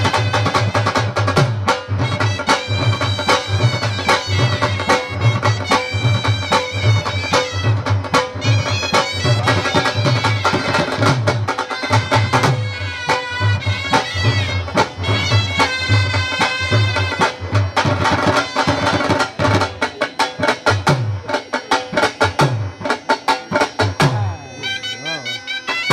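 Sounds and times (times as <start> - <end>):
dhol drums beating: 0.0 - 25.9
reedy woodwind pipes melody: 0.0 - 25.9.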